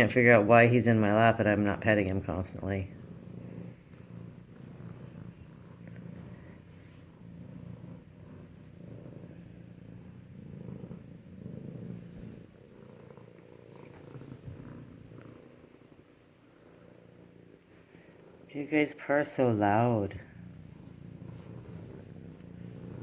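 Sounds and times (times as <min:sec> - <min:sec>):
kittens purring: 0:00.0 - 0:23.0.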